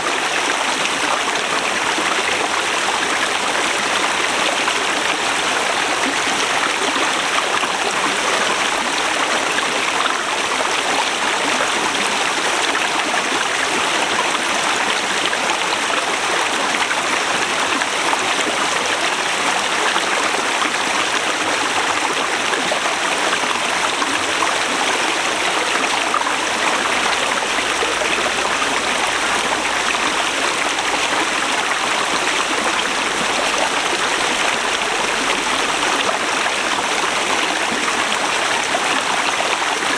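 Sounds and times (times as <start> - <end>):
river running over rocks: 0.0 - 39.9.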